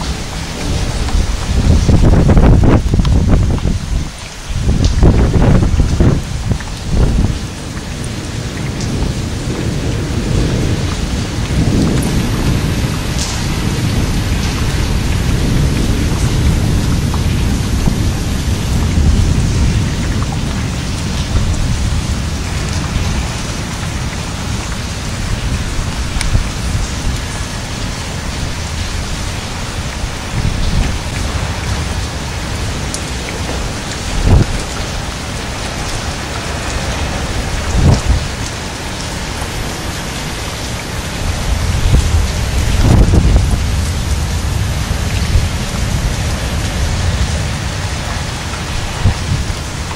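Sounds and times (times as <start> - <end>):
heavy rain falling: 0.0 - 49.9
thunder rumbling: 0.0 - 49.9.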